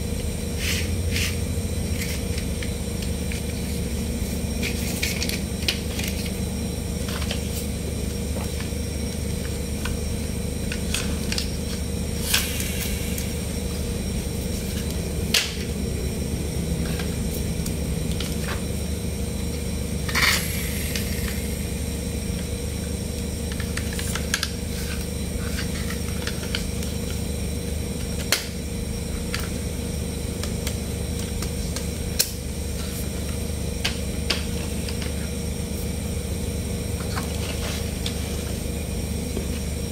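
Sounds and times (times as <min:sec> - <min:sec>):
steady background hum: 0:00.0 - 0:39.9.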